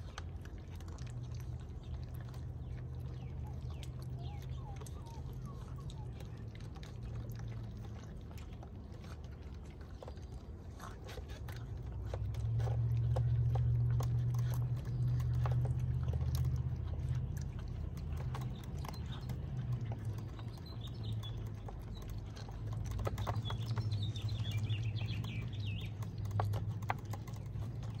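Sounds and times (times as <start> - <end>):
puppies crunching dry kibble: 0.0 - 28.0
steady low hum: 0.0 - 28.0.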